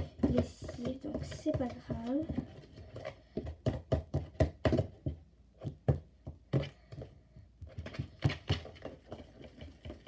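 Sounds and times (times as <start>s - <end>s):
slime being stirred in a bowl: 0.0s - 10.0s.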